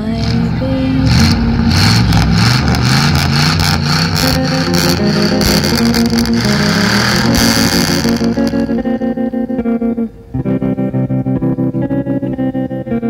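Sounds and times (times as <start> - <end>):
car engine revving: 0.0 - 10.8
rock music with guitar: 0.0 - 13.0.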